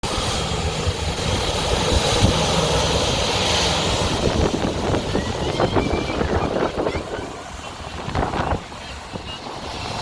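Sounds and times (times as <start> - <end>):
jet engines at takeoff thrust: 0.0 - 10.0.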